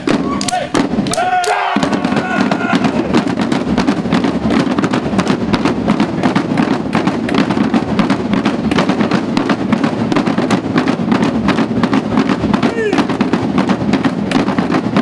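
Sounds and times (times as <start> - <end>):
bass drums: 0.0 - 15.0
snare drums: 0.0 - 15.0.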